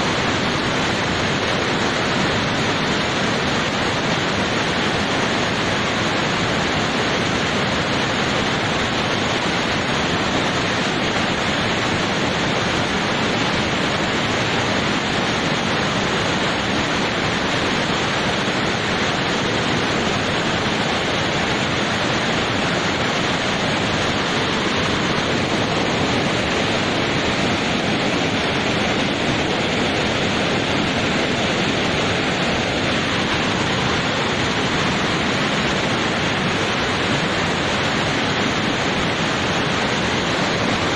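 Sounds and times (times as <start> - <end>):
floodwater rushing down stream bed: 0.0 - 40.9.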